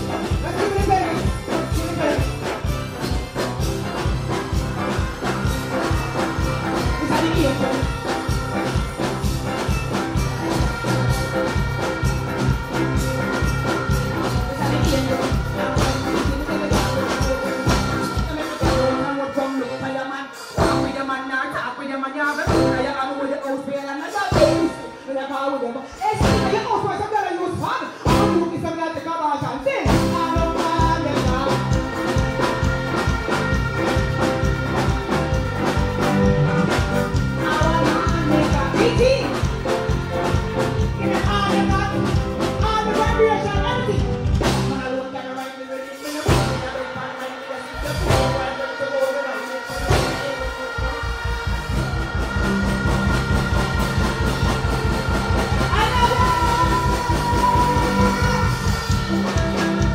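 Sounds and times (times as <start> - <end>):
live band music: 0.0 - 59.9.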